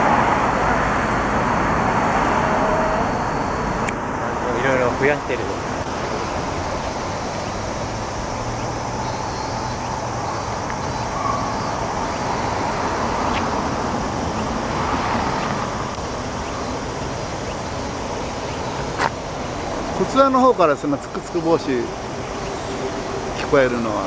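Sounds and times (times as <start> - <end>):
cicadas chorus: 0.0 - 24.0
city road traffic rumble: 0.0 - 24.0.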